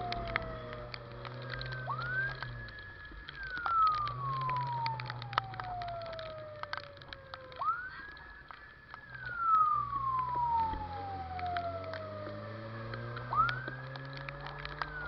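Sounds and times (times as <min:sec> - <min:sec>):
emergency siren wailing: 0:00.0 - 0:15.0
low steady hum: 0:00.0 - 0:15.0
sharp clicks: 0:00.0 - 0:15.0.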